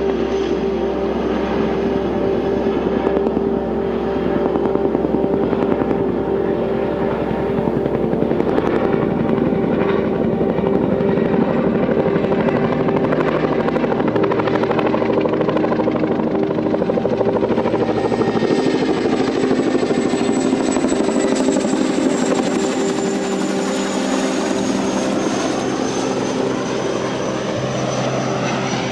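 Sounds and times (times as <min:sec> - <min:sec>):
helicopter rotors beating: 0:00.0 - 0:28.9
high turbine whine: 0:00.0 - 0:28.9
turboshaft engines droning: 0:00.0 - 0:28.9.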